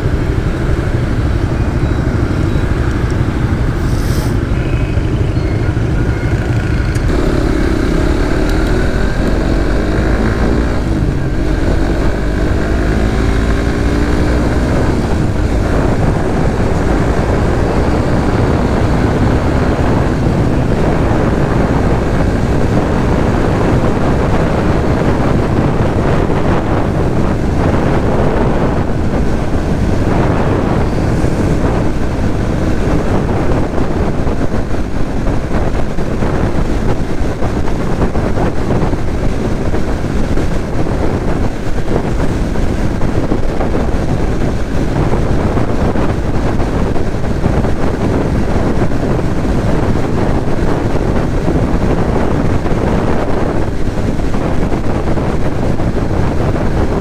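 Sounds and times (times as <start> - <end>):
motorcycle engine running: 0.0 - 57.0
traffic: 0.0 - 57.0
wind buffeting microphone: 0.0 - 57.0.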